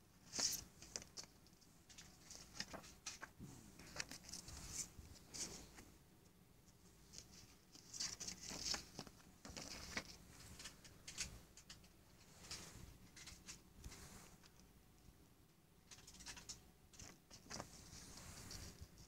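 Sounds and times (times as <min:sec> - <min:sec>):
paper rustling: 0:00.2 - 0:05.8, 0:07.0 - 0:14.6, 0:15.9 - 0:19.0.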